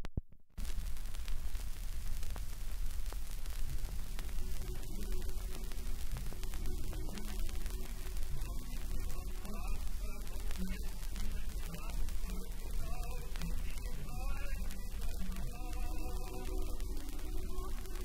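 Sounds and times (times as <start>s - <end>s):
record surface hiss and crackle: 0.0s - 18.0s
faint music: 3.1s - 18.0s.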